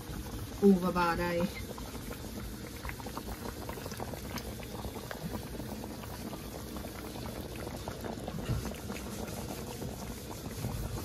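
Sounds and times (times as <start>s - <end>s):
food bubbling in a pot: 0.0s - 11.0s.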